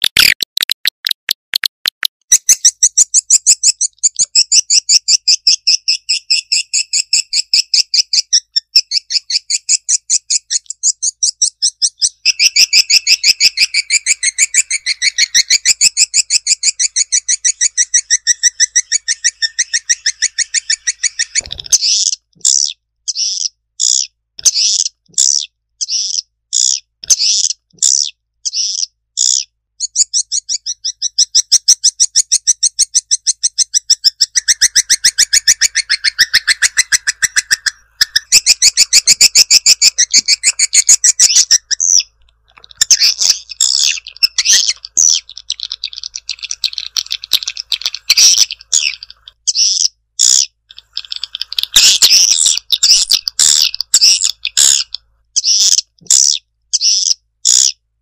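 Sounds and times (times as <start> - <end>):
high rapid bird chirping: 0.0 - 57.8
fast twittering trills: 2.0 - 57.8.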